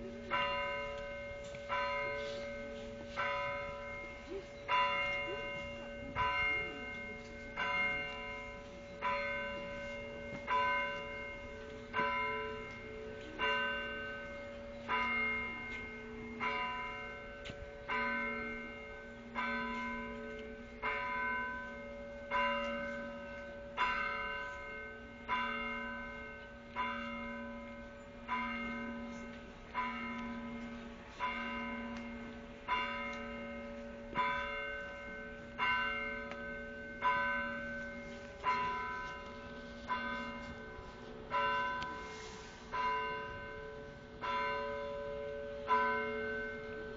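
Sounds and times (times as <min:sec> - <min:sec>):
bells ringing: 0:00.0 - 0:46.9.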